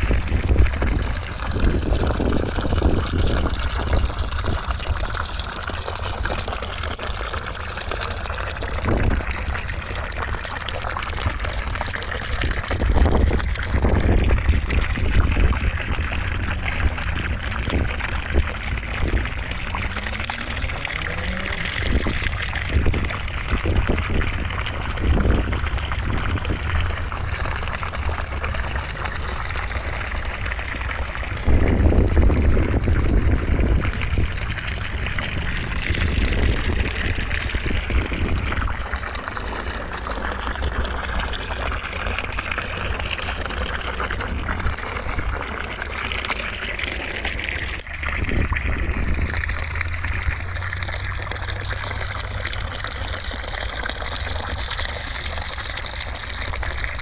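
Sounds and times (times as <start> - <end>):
rushing water-like white noise: 0.0 - 57.0.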